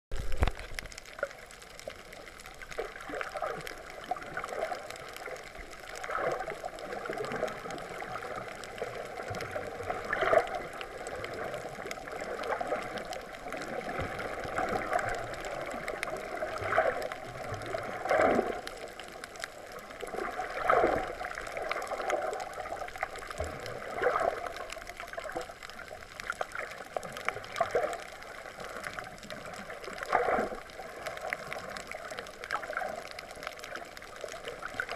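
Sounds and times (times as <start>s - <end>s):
muffled underwater sloshing: 0.1s - 34.9s.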